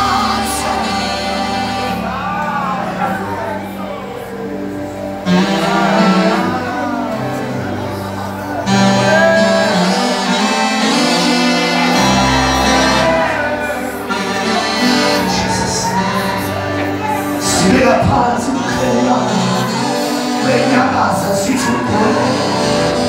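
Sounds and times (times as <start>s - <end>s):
worship music with singing: 0.0s - 23.0s.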